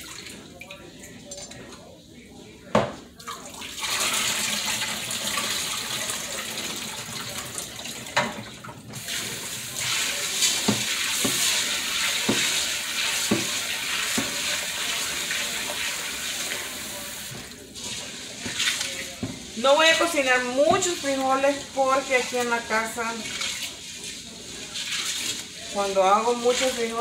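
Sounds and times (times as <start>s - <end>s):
faucet running into metal pot: 3.2s - 27.0s.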